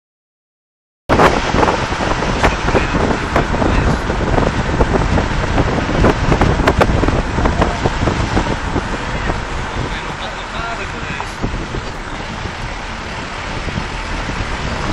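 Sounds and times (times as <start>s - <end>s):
vehicle road noise: 1.1s - 14.9s
wind buffeting microphone: 1.1s - 14.9s.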